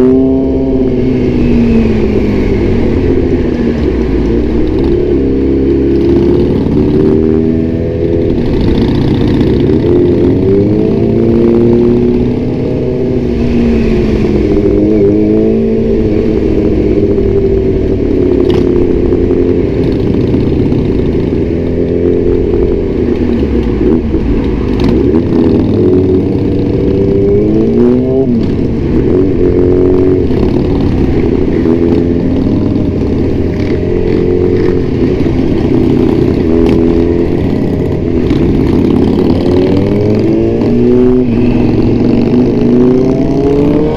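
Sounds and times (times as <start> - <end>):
motorcycle engine at speed: 0.0 - 43.9.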